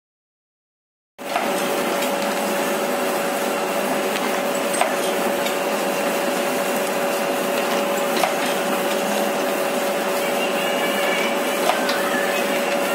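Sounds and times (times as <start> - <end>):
machine hum and whine: 1.2 - 12.9.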